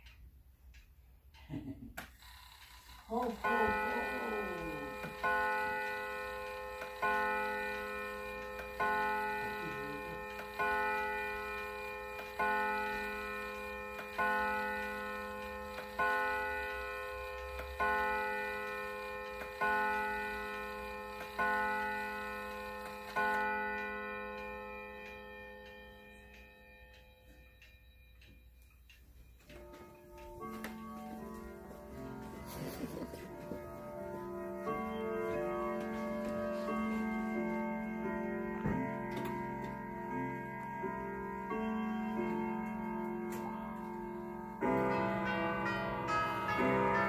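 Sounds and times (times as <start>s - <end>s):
clock ticking: 0.0s - 47.0s
clock gong strikes: 3.1s - 28.2s, 29.5s - 47.0s.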